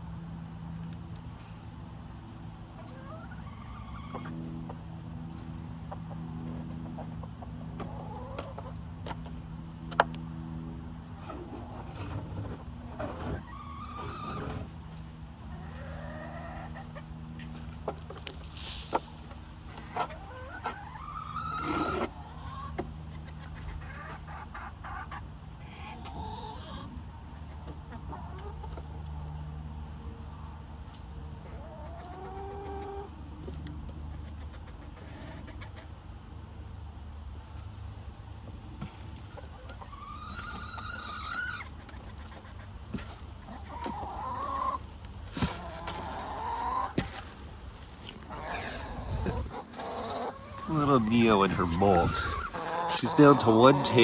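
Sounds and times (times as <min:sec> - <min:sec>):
hens clucking: 0:01.5 - 0:10.4, 0:11.0 - 0:29.4, 0:31.3 - 0:36.2, 0:38.8 - 0:54.0.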